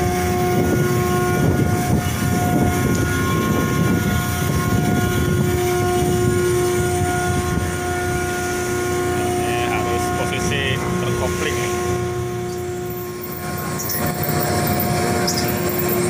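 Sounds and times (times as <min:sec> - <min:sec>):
ship deck machinery running: 0:00.0 - 0:16.0.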